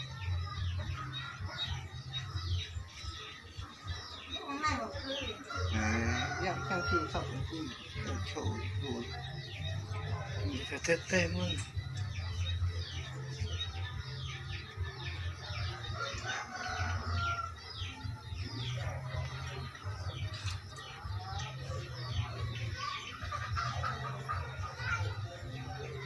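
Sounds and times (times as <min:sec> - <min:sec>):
chickens peeping: 0:00.0 - 0:26.0.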